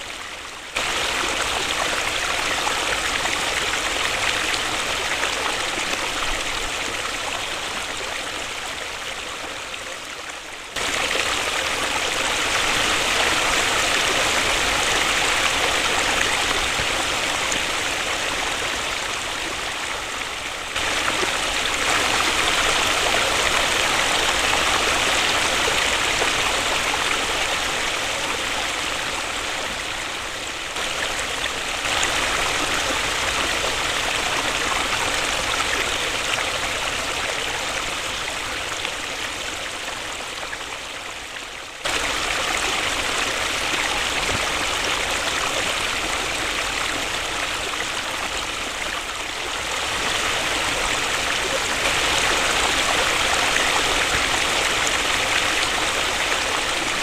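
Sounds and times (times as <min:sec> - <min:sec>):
waterfall rushing: 0:00.8 - 0:09.2, 0:10.7 - 0:40.6, 0:41.8 - 0:57.0.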